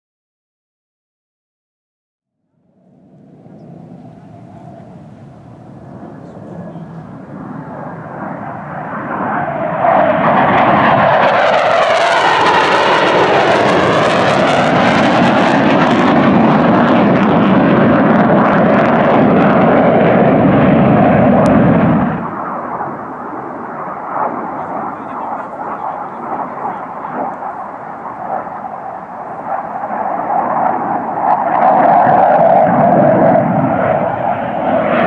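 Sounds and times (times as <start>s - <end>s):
loud jet engine roar: 2.7s - 35.0s.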